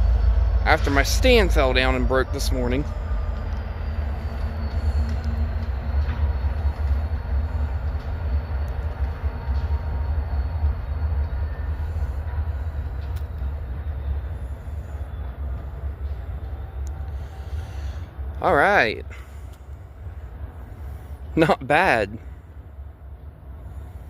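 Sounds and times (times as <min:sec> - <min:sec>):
diesel locomotive engine rumble: 0:00.0 - 0:24.0.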